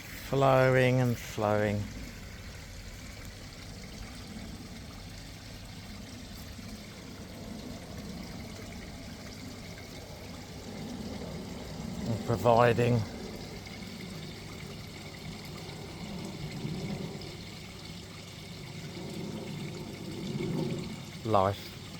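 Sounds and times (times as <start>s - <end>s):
water pouring over small waterfall: 0.0s - 21.9s.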